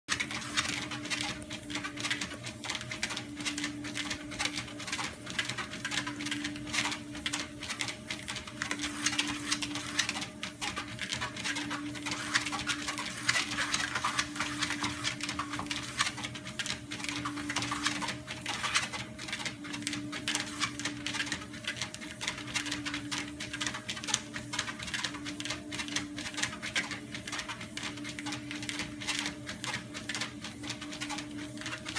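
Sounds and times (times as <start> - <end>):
dog paws pattering on treadmill: 0.1 - 31.9
treadmill hum: 0.1 - 31.9.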